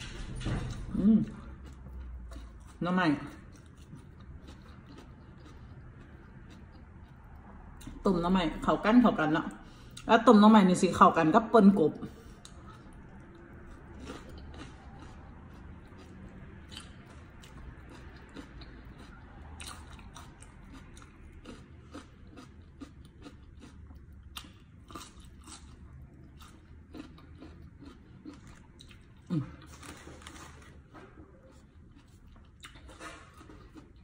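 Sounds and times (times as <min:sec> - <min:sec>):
person chewing crunchy vegetables: 0:00.8 - 0:08.0, 0:12.2 - 0:34.0.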